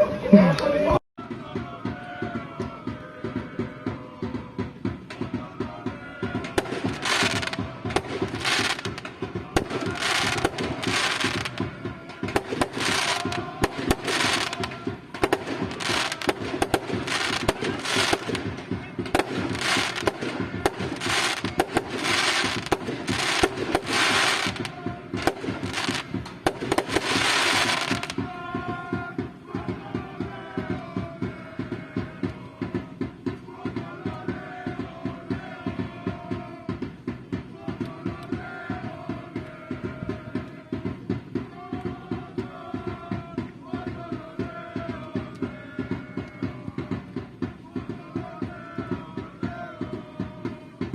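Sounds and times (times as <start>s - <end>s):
fast drum pattern: 1.2s - 50.9s.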